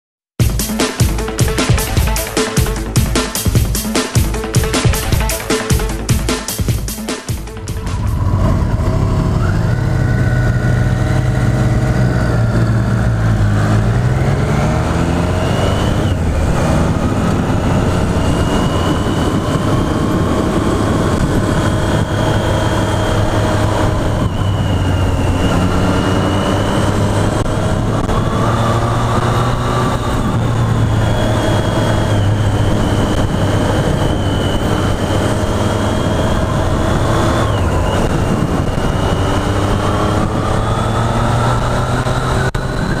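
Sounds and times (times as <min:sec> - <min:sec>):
motorcycle engine accelerating: 0:00.4 - 0:43.0.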